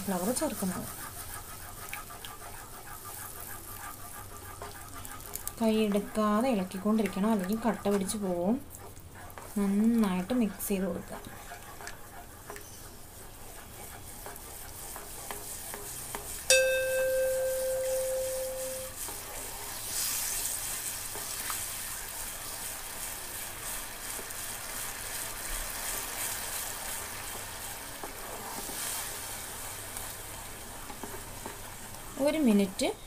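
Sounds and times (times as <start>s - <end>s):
caramel bubbling and sizzling: 0.0s - 33.0s
spatula stirring in pan: 0.0s - 33.0s.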